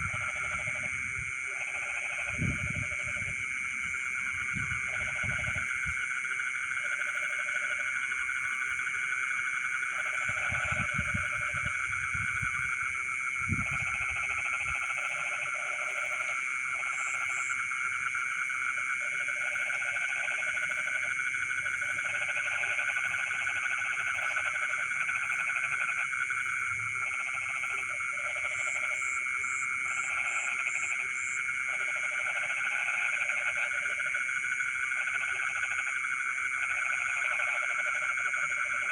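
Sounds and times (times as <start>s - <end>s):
frogs croaking: 0.0s - 38.9s
frogs trilling: 0.0s - 38.9s.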